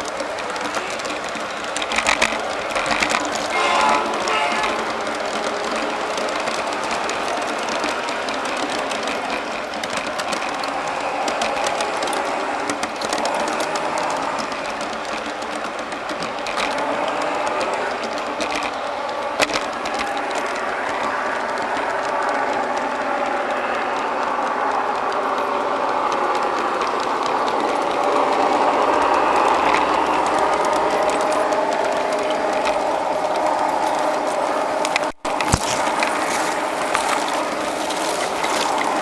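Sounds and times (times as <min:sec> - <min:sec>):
model train motor whirring: 0:00.0 - 0:39.0
wheels clicking on rails: 0:00.0 - 0:39.0.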